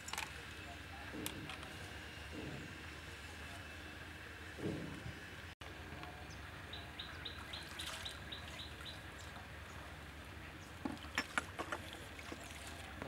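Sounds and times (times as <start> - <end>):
forest background hum: 0.0 - 13.0.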